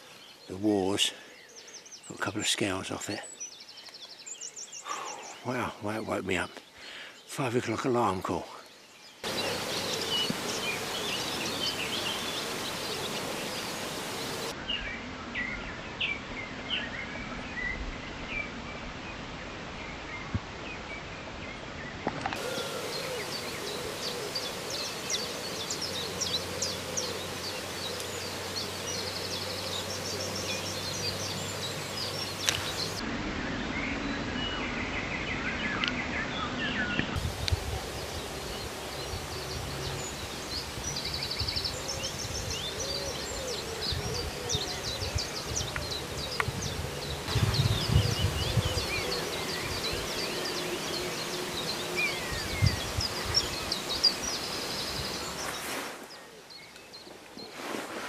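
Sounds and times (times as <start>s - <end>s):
outdoor hiss: 0.0s - 14.6s, 18.9s - 33.0s, 37.2s - 58.0s
songbirds singing: 0.0s - 58.0s.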